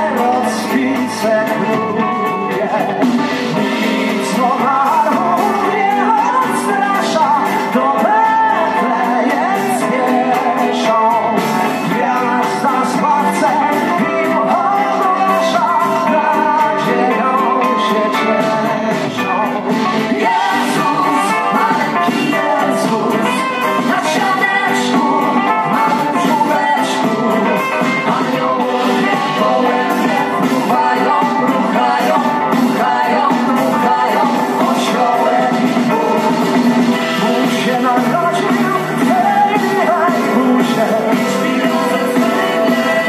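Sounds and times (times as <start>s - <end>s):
folk-pop band playing live: 0.0s - 43.0s
lead vocal singing: 0.0s - 43.0s.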